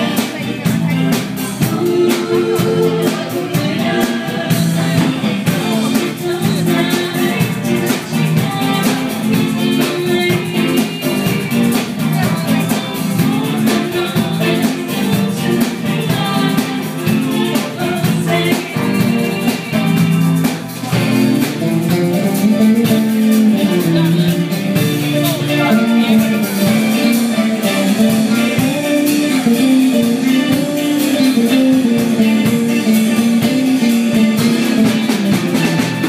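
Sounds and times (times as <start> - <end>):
drum kit: 0.0 - 36.0
electric bass: 0.0 - 36.0
keyboard: 0.0 - 36.0.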